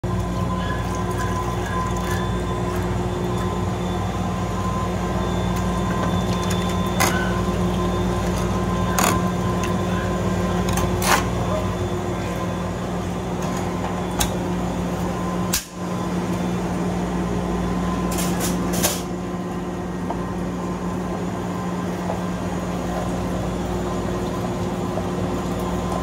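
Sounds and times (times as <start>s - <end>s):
refrigeration machinery hum: 0.0s - 26.0s.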